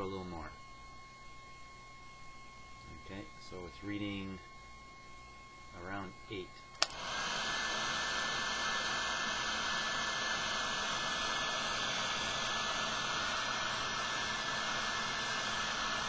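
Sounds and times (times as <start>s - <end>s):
heat gun blowing with whine: 2.0s - 16.0s.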